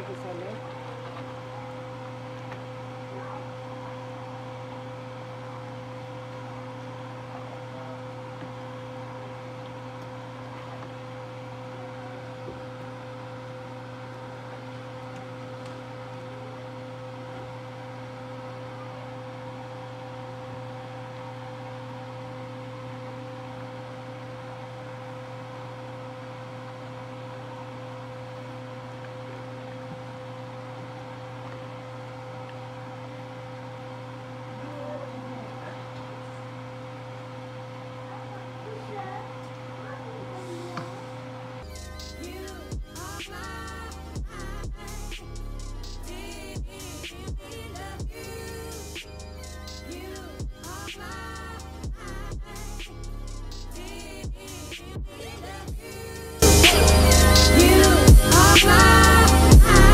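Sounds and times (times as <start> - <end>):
kitchen appliance humming: 0.0 - 59.9.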